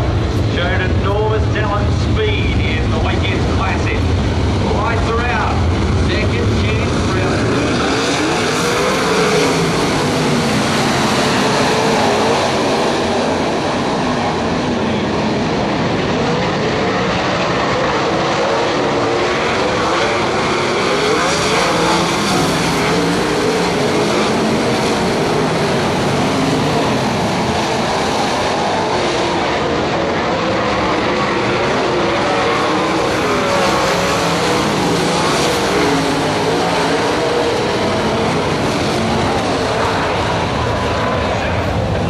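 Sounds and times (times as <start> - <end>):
race car engines droning: 0.0 - 42.0.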